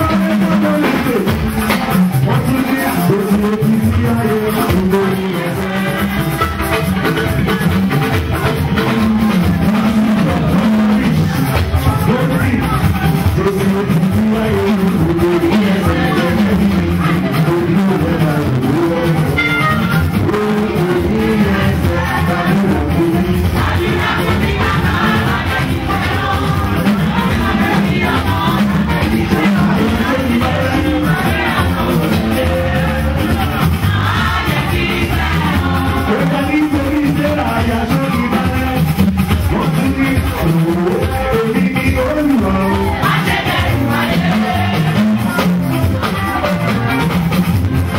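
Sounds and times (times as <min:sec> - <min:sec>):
voices singing: 0:00.0 - 0:46.5
band playing with bass line: 0:00.0 - 0:47.9.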